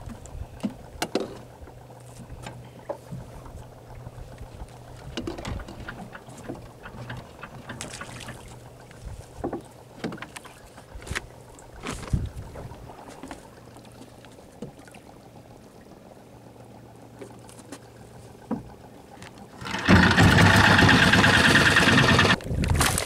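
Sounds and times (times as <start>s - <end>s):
low engine hum: 0.0s - 23.0s
water lapping against hull: 0.0s - 23.0s.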